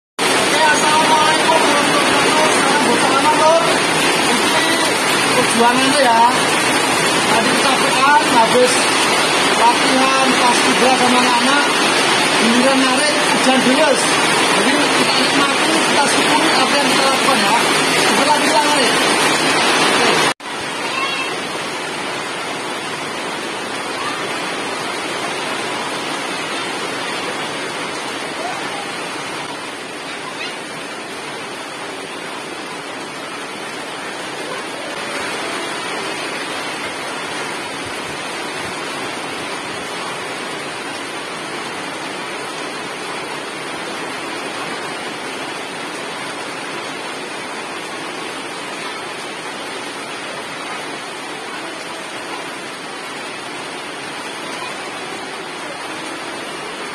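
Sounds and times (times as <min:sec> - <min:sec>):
heavy rain on puddles and grass: 0:00.2 - 0:56.9.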